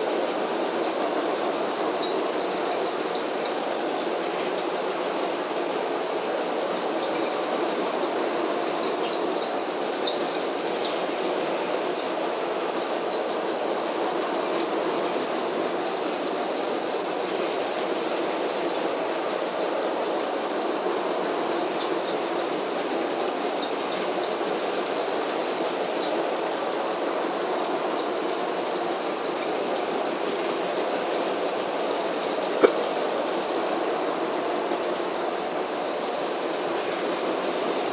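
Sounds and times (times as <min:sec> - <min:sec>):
toy train running on track: 0:00.0 - 0:37.9.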